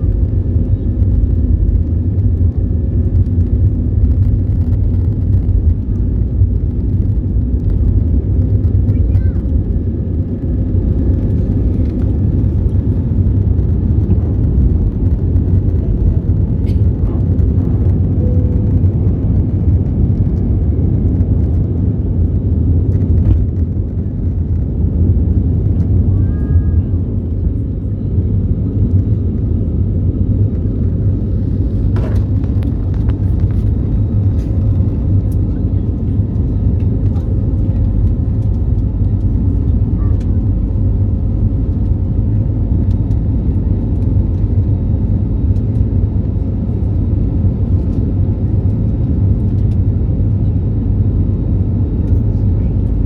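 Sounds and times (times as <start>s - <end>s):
airplane cabin rumble: 0.0s - 53.0s
faint constant hum: 0.0s - 53.0s.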